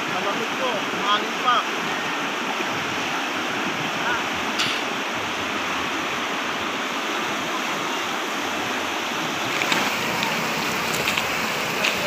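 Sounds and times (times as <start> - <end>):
water rushing through rapids: 0.0 - 12.0.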